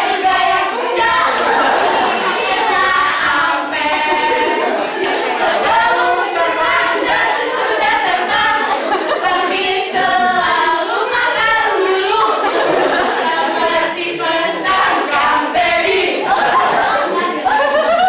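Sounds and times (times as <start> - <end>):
group singing in unison: 0.0 - 18.0.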